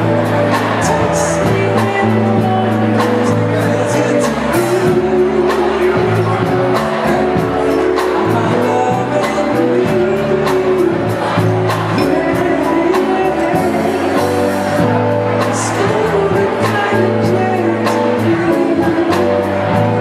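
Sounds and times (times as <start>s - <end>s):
bass: 0.0s - 20.0s
group of singers: 0.0s - 20.0s
keyboard: 0.0s - 20.0s
steady beat: 0.0s - 20.0s.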